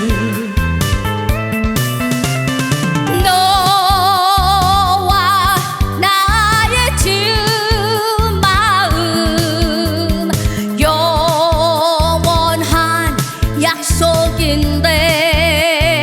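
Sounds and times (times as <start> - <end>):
woman singing with vibrato: 0.0 - 1.6, 3.0 - 16.0
trot song with band: 0.0 - 16.0.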